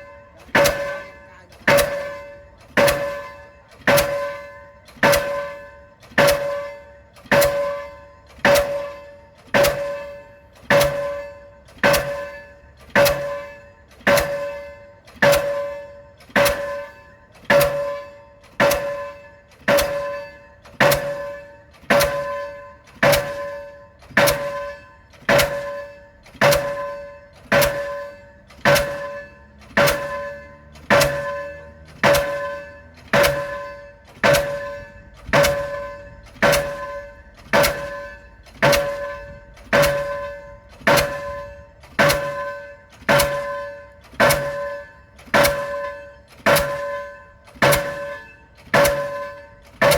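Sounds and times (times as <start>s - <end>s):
pile hammer blows with metallic ring: 0.0s - 49.9s.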